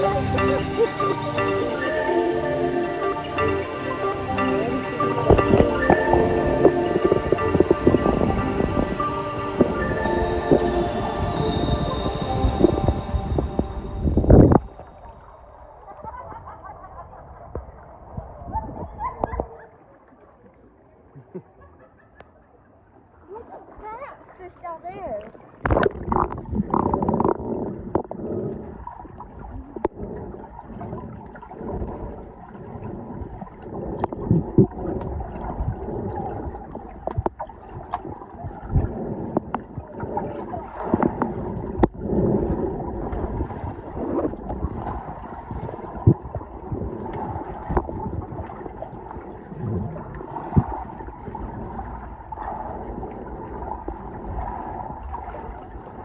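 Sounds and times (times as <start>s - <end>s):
gurgling water and bubbles: 0.0s - 56.0s.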